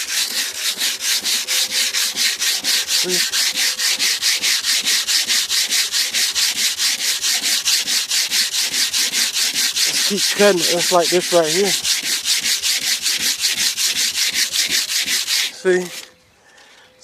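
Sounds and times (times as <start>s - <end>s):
sandpaper rubbing on metal: 0.0s - 16.1s.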